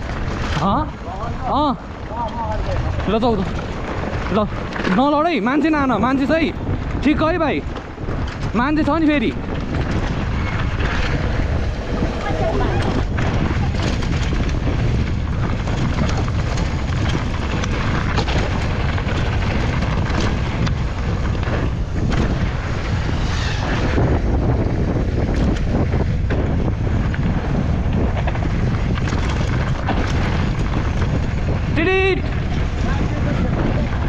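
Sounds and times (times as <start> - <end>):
bike knocking and rattling: 0.0 - 34.0
wind rushing over microphone: 0.0 - 34.0.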